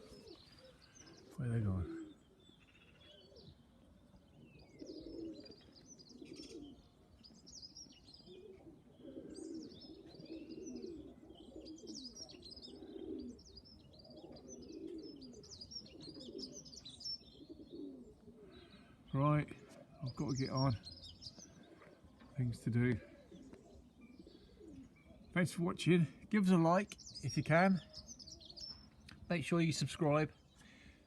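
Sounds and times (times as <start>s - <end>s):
pigeons cooing: 0.0s - 31.0s
small birds chirping: 0.0s - 31.0s.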